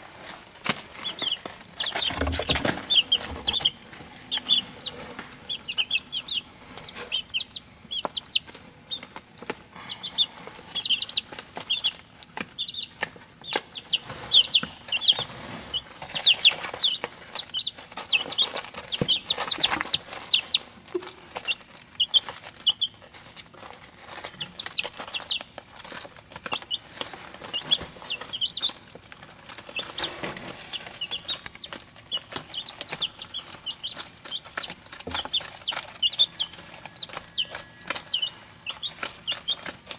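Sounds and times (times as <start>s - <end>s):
chicks pecking and scratching: 0.0s - 39.9s
chicks peeping: 0.0s - 39.9s.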